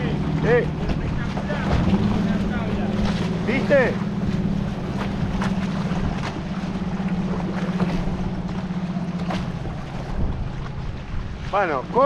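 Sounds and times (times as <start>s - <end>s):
kayak paddles dipping: 0.0s - 12.0s
low motor hum: 0.0s - 12.0s
water splashing: 0.0s - 12.0s.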